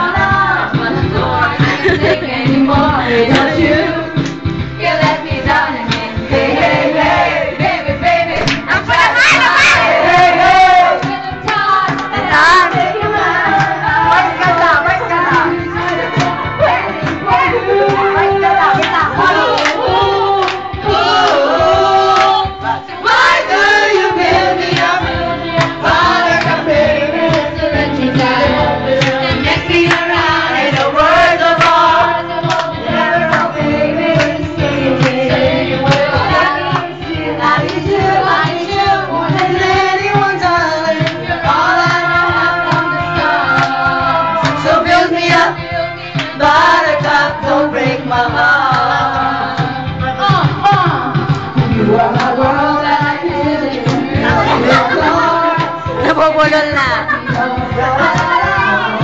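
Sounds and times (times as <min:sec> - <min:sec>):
pop backing track: 0:00.0 - 0:59.0
women singing karaoke: 0:00.0 - 0:59.0.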